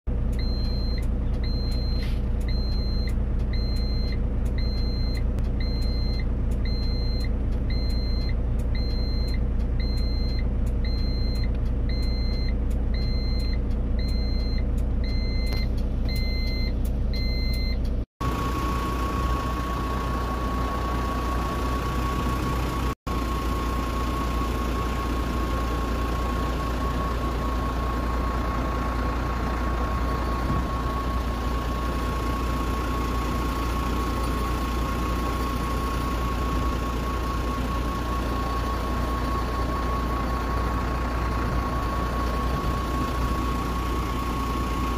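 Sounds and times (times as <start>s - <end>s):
vehicle engine running: 0.1s - 44.9s
reversing beeper: 0.4s - 44.9s.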